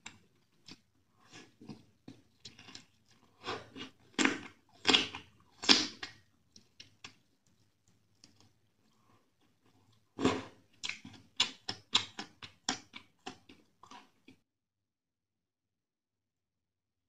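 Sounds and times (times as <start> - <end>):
wet chewing: 0.0 - 14.4.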